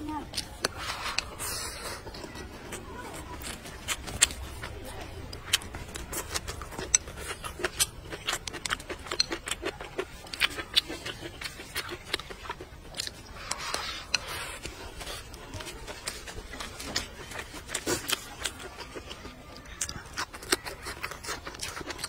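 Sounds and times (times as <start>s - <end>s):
chewing and mouth noises: 0.0s - 22.0s.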